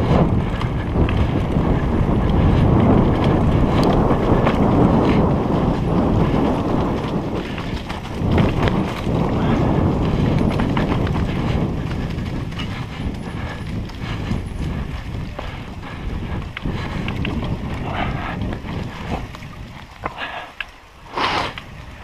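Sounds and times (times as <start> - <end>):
bike clicks and rattles: 0.0 - 22.0
knobby tyres rolling over dirt: 0.0 - 22.0
wind buffeting microphone: 0.0 - 22.0.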